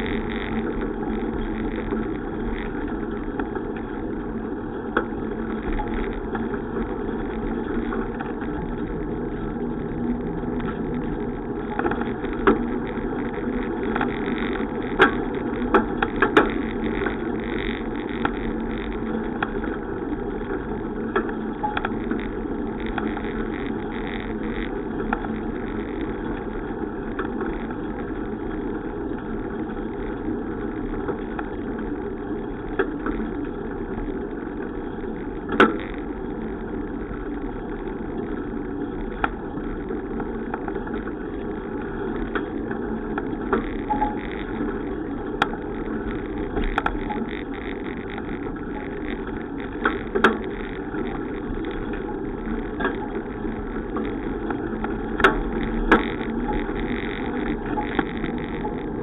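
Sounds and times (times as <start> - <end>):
bicycle riding noise: 0.0 - 59.0.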